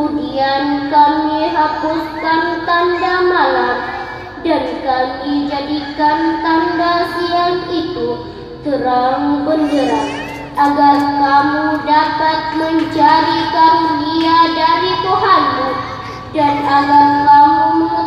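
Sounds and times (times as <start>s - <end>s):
child chanting recitation: 0.0s - 18.0s.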